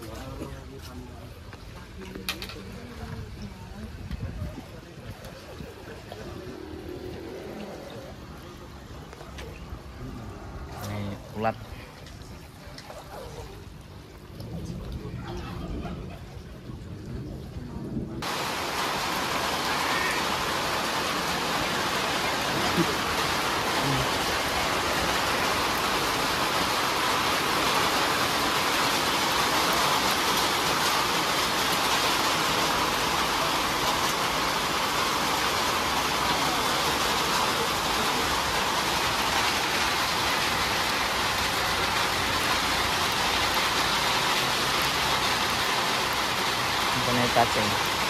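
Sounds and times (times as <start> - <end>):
rain falling on pond: 0.0 - 48.0.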